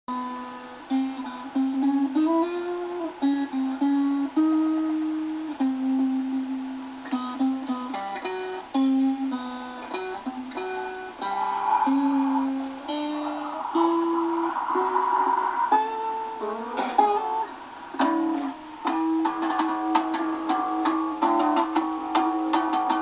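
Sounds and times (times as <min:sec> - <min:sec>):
solo guitar riff: 0:00.1 - 0:23.0.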